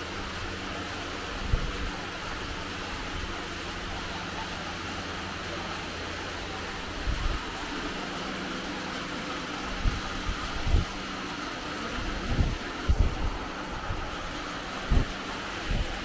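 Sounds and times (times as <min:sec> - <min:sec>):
workshop hum and hiss: 0:00.0 - 0:16.0.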